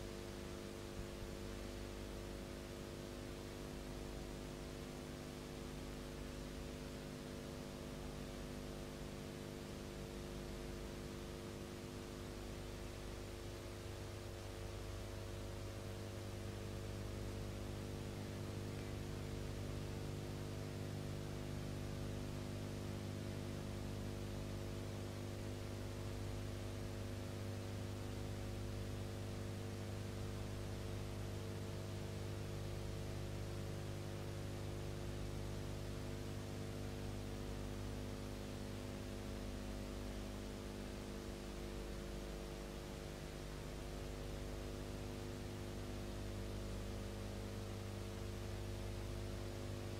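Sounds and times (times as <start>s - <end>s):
constant hiss: 0.0s - 49.9s
electrical mains hum: 0.0s - 49.9s.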